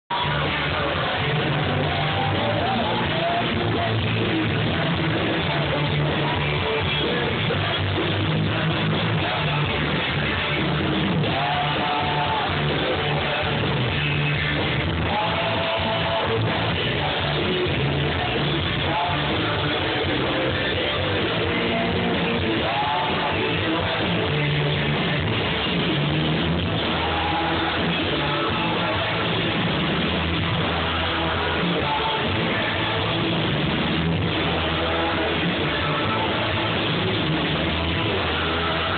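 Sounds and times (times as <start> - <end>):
drums: 0.0 - 38.9
electric bass guitar: 0.0 - 38.9
guitar: 0.0 - 38.9
person singing: 0.0 - 38.9.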